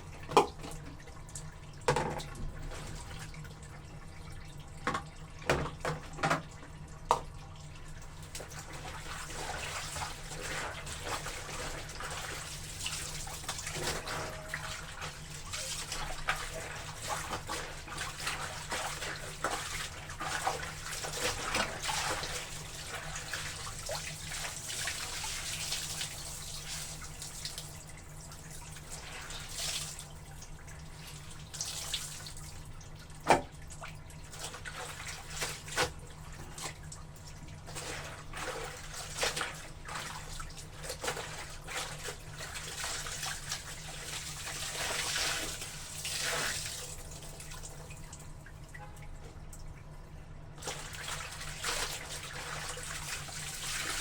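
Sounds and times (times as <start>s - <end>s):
water splashing in a tub: 0.0s - 54.0s.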